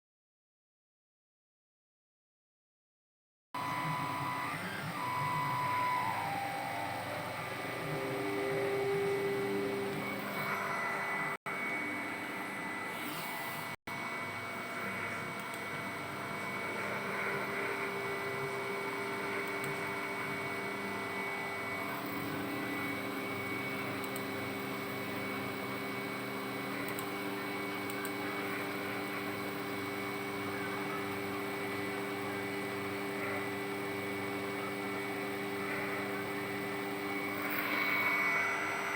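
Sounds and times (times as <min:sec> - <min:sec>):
constant motor hum: 0:03.6 - 0:38.9
stepper motors whining: 0:03.6 - 0:38.9.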